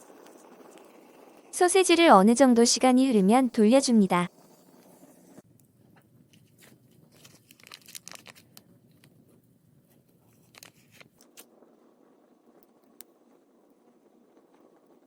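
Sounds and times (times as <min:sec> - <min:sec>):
wood fire crackling and popping: 0:00.0 - 0:03.5, 0:04.3 - 0:15.0.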